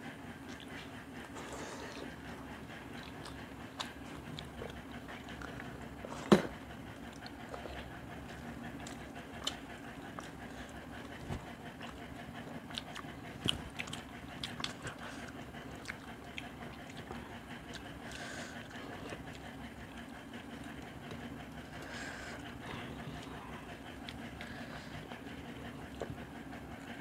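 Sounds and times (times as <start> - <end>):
low steady hum: 0.0 - 27.0
chewing and mouth clicks: 0.4 - 27.0.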